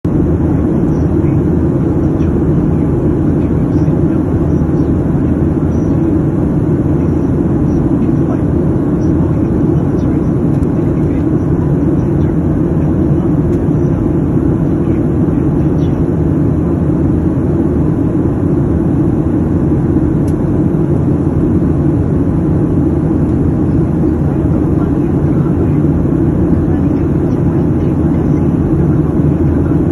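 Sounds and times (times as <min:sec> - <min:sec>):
airliner cabin engine rush: 0:00.0 - 0:29.9.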